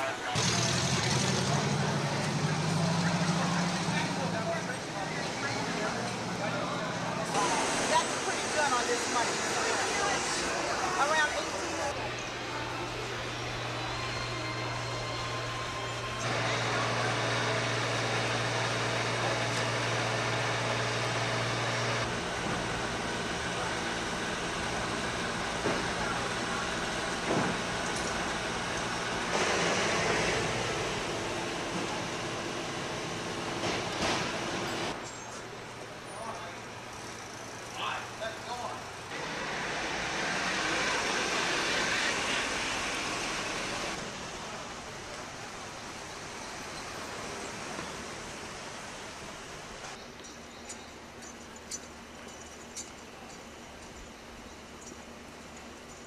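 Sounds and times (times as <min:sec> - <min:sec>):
street background noise: 0:00.0 - 0:56.0.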